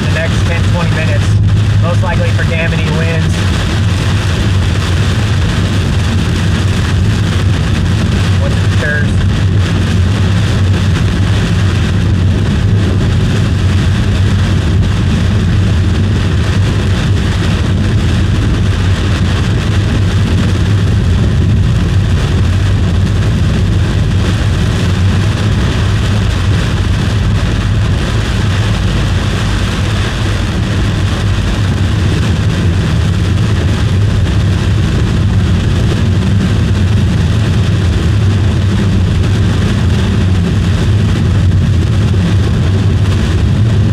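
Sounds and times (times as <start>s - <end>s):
car road and engine noise: 0.0s - 43.9s.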